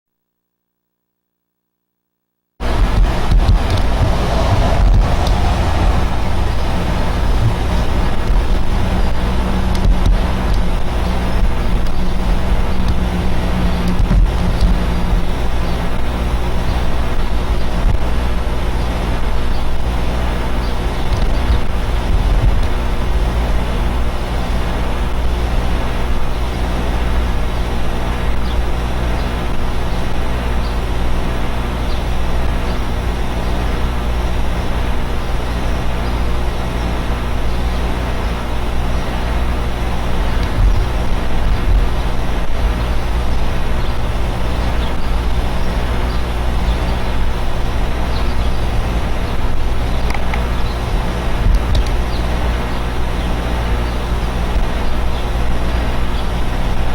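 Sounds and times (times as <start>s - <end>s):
air conditioners humming: 2.6s - 56.9s
rushing fan noise: 2.6s - 56.9s.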